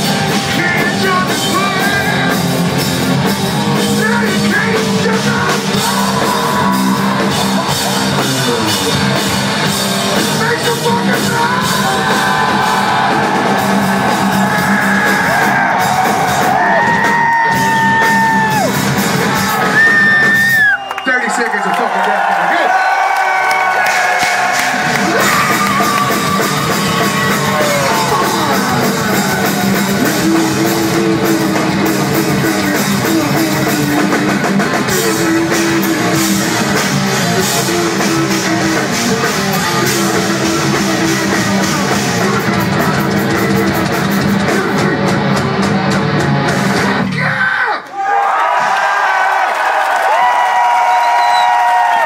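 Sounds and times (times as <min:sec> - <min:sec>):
drum kit and cymbals: 0:00.0 - 0:20.8, 0:23.7 - 0:47.1
electric guitars: 0:00.0 - 0:20.8, 0:23.7 - 0:47.2.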